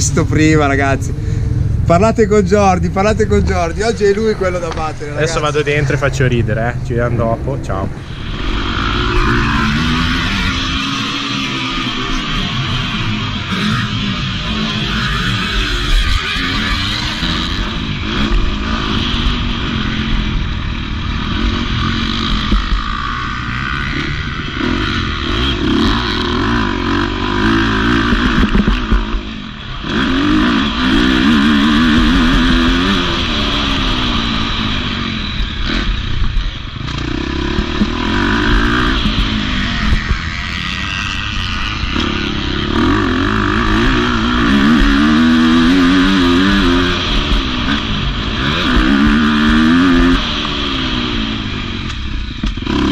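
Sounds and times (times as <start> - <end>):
motocross engine revving: 0.0 - 52.9.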